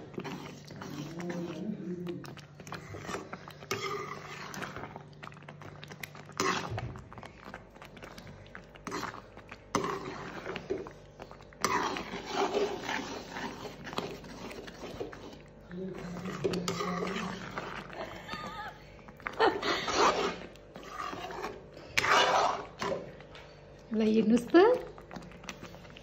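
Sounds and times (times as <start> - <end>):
pickle bubbling and popping: 0.0 - 26.0.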